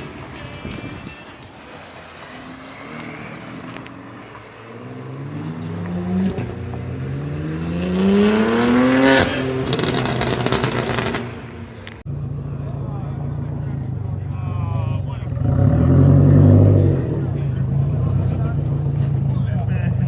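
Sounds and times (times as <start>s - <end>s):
vehicle engine accelerating: 0.0s - 20.0s.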